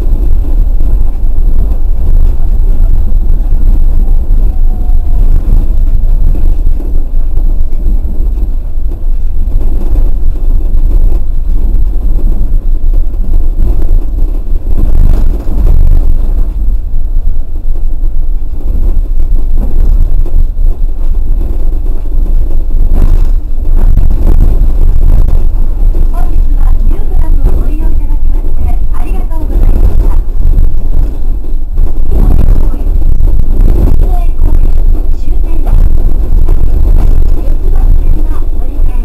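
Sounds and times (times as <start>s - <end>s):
tram rumbling on guideway: 0.0s - 39.0s.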